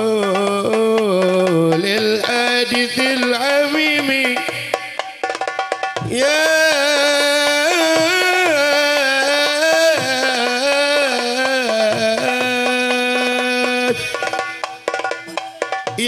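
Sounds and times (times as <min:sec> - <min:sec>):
man singing into a microphone: 0:00.0 - 0:05.2, 0:06.0 - 0:14.6.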